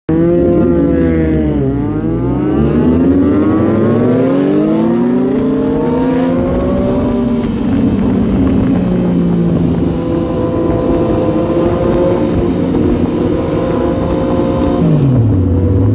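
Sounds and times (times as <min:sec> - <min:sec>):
motorcycle engine accelerating: 0:00.1 - 0:15.9.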